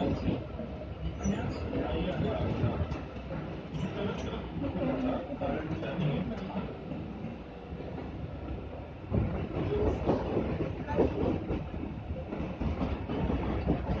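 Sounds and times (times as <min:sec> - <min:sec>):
train wheels clattering over rails: 0:01.3 - 0:14.0.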